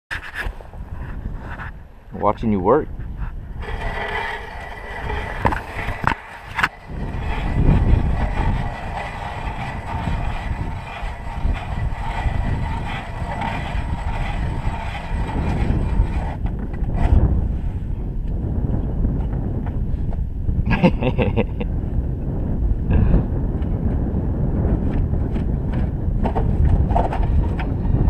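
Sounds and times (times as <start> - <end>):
wind buffeting microphone: 0.2 - 28.0.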